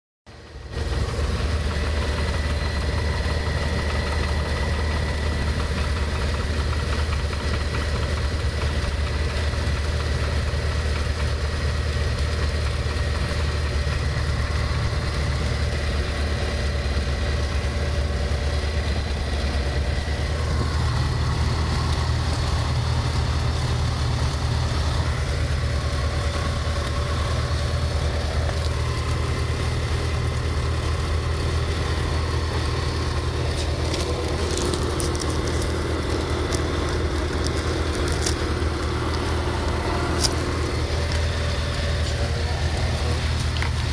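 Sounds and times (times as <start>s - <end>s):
propeller aircraft engine droning: 0.3s - 43.9s.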